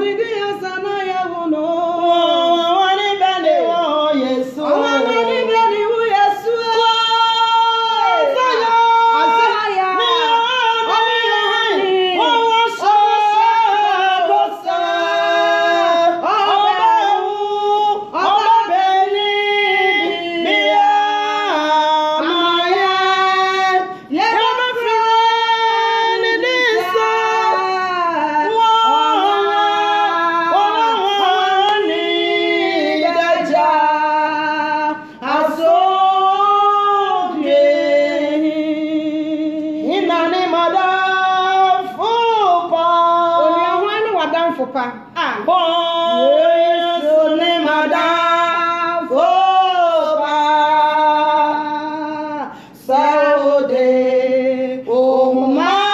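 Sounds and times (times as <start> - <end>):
women singing unaccompanied: 0.0 - 55.9.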